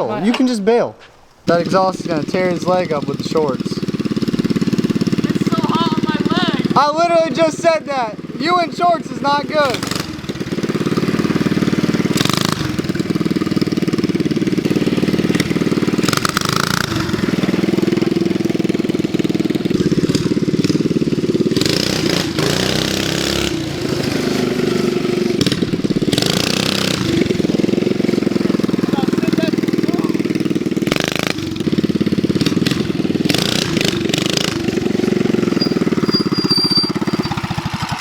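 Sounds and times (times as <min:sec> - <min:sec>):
mini bike engine revving: 0:01.5 - 0:38.0.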